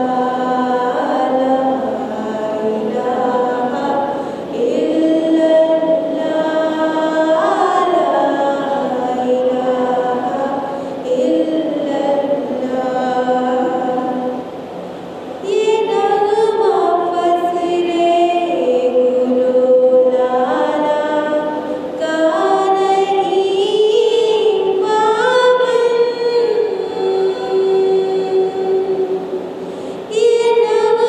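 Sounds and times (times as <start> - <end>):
woman singing into a microphone: 0.0 - 14.7, 15.3 - 31.0.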